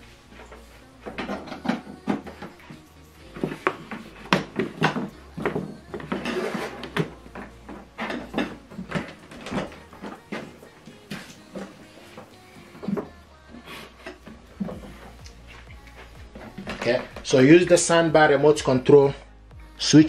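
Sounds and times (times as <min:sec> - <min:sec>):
cables and plugs moving: 0:00.0 - 0:18.6.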